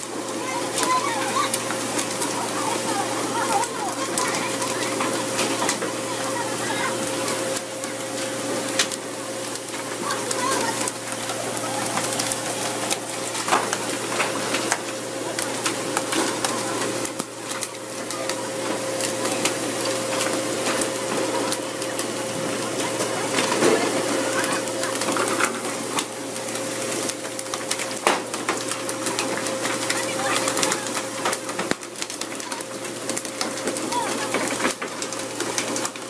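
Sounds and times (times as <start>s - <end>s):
mechanical hum: 0.0s - 36.0s
water spraying and splashing: 0.0s - 36.0s.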